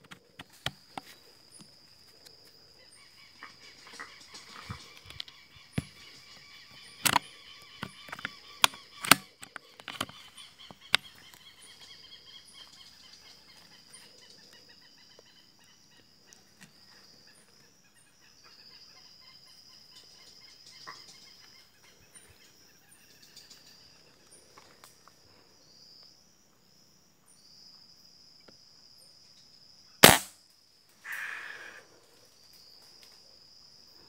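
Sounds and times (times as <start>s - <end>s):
chorus of forest birds: 0.0s - 34.0s.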